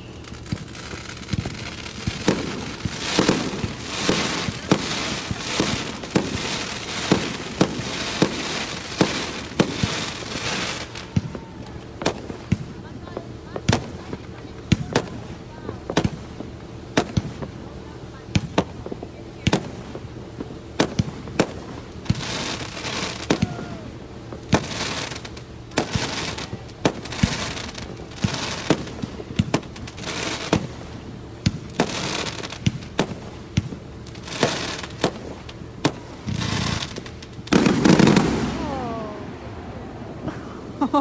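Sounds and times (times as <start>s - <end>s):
fireworks booming: 0.0s - 41.0s
fireworks crackling: 0.0s - 41.0s.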